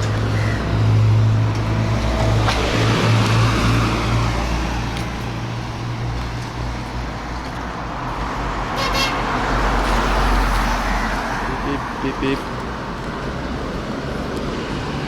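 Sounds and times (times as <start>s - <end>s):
car engines and tyres rumbling: 0.0s - 15.0s.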